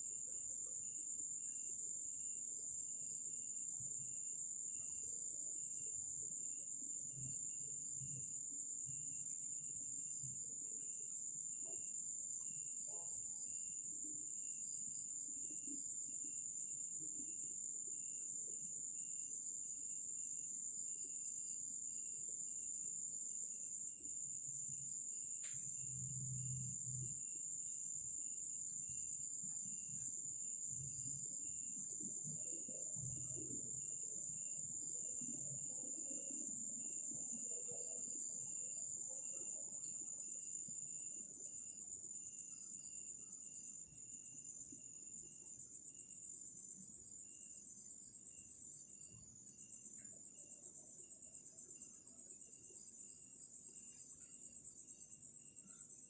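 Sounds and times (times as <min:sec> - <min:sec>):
cricket chirping in pulses: 0:00.0 - 0:56.0
high cricket trill: 0:00.0 - 0:56.0.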